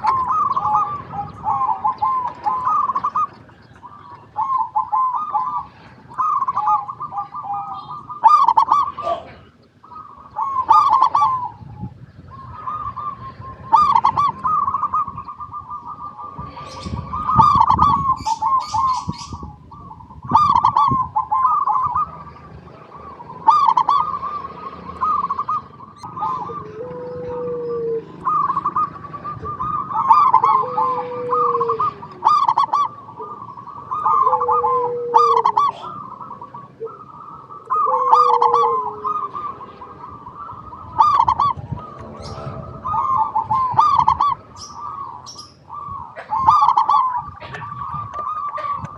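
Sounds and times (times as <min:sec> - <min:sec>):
dove cooing: 0:00.0 - 0:48.9
lower falling bird call: 0:00.0 - 0:48.9
small birds chirping: 0:00.0 - 0:48.9.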